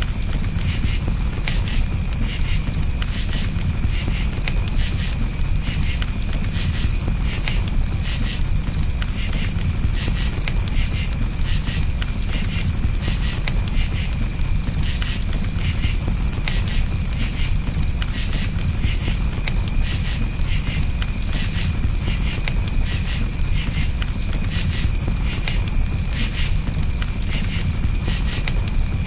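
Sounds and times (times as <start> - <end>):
campfire crackling: 0.0 - 29.0
crickets chirping: 0.0 - 29.0
steady low rumble: 0.0 - 29.0.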